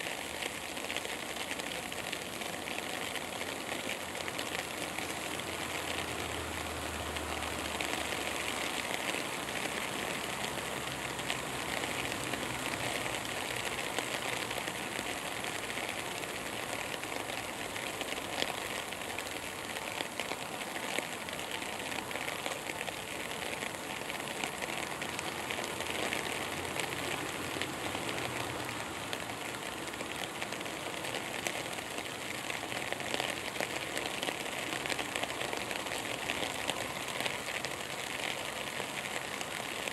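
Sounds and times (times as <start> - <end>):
outdoor hiss with fine crackling: 0.0 - 39.9.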